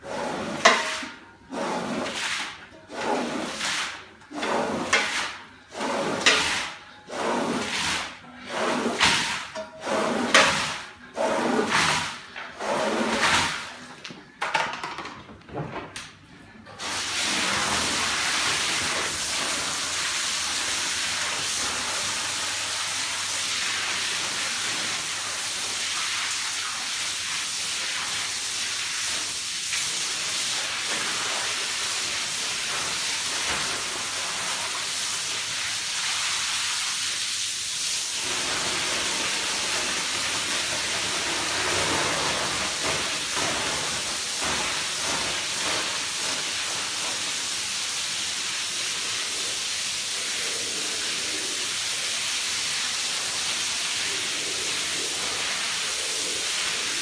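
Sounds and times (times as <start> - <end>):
brush scrubbing wet rug: 0.0 - 13.9, 16.8 - 57.0
water jet spraying: 0.0 - 13.9, 16.8 - 57.0.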